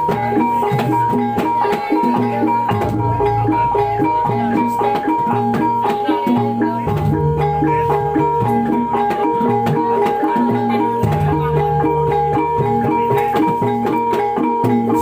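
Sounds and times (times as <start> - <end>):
gong-chime percussion ensemble: 0.0 - 15.0.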